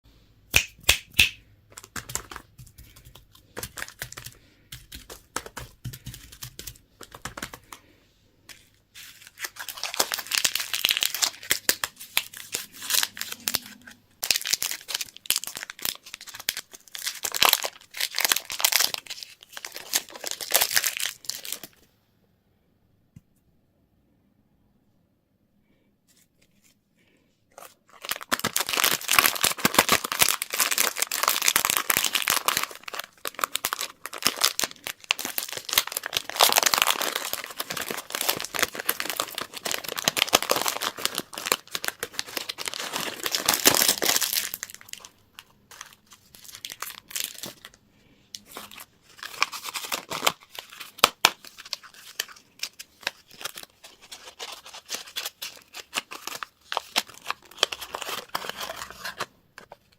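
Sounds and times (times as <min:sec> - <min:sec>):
candy wrappers crinkling: 0:00.6 - 0:07.9, 0:08.5 - 0:21.8, 0:27.5 - 0:59.9.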